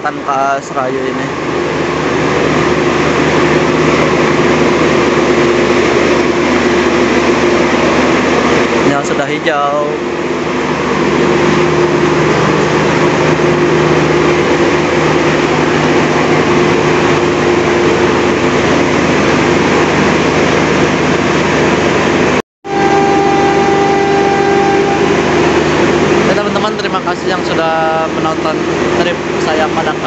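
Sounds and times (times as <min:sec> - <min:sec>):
high whine: 0:00.0 - 0:30.0
train engine humming: 0:00.0 - 0:30.0.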